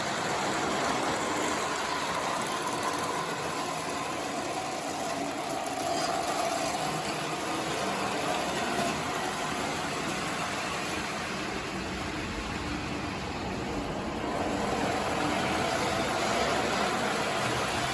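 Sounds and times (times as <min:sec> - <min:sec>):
model train motor whine: 0:00.0 - 0:17.9
wheels rumbling on rails: 0:00.0 - 0:17.9.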